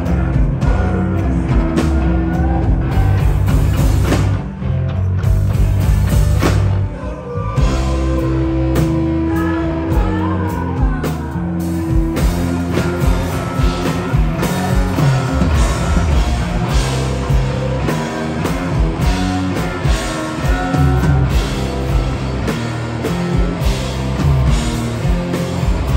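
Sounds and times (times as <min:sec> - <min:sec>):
drum kit: 0:00.0 - 0:25.9
electric guitars: 0:00.0 - 0:25.9.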